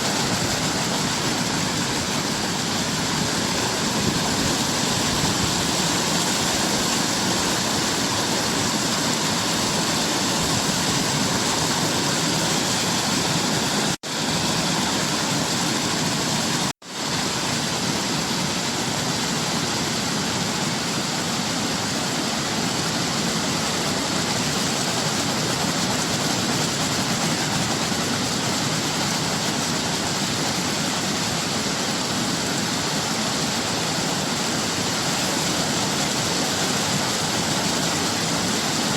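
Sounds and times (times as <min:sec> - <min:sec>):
waterfall pouring: 0:00.0 - 0:38.9.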